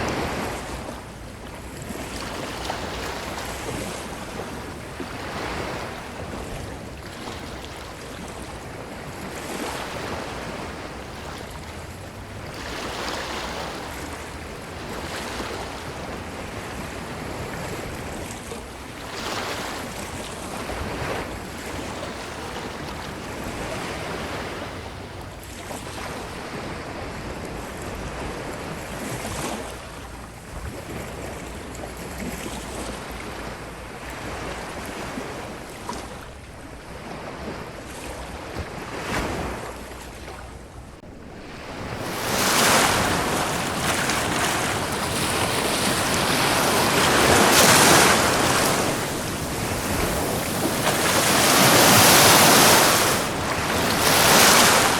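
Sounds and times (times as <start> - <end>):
ocean surf on a beach: 0.0 - 54.9.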